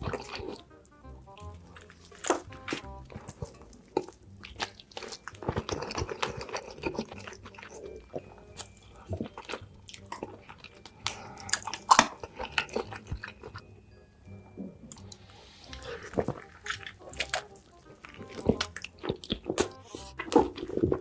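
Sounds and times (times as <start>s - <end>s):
person biting and chewing: 0.0s - 13.6s, 14.5s - 21.0s.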